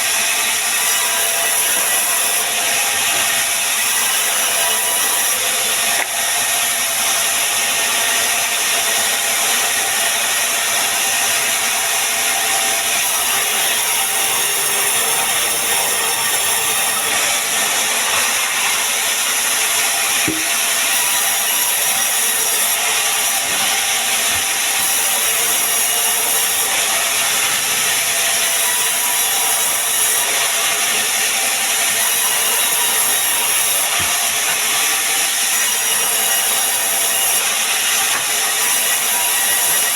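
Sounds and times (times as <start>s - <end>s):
saw cutting through wood: 0.0s - 39.9s.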